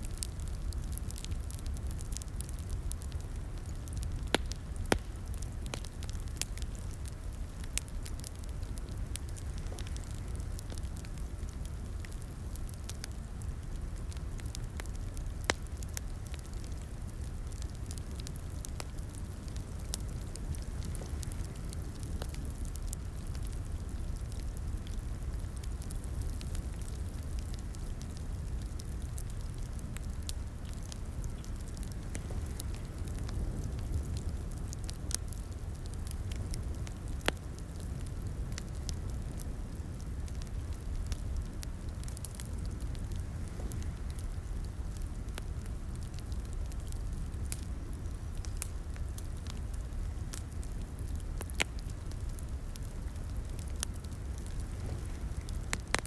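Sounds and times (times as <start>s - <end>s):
fire low rumble: 0.0s - 56.0s
wood fire crackling and popping: 0.0s - 56.0s.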